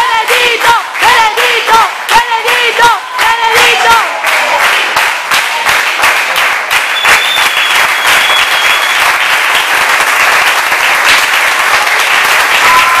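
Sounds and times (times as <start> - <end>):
group clapping: 0.0 - 13.0.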